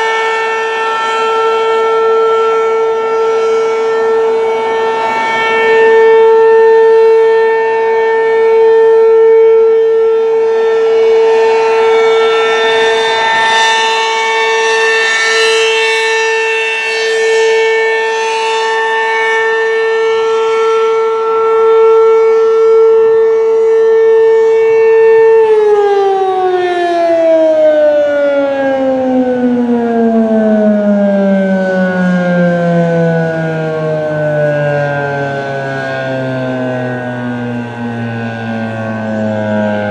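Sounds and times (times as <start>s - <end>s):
warning siren high tone: 0.0s - 39.9s.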